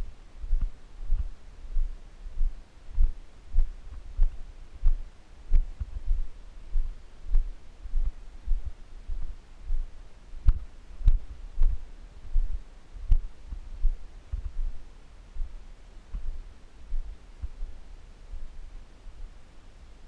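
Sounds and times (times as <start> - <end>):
low dull thuds: 0.0 - 14.8, 15.4 - 17.8.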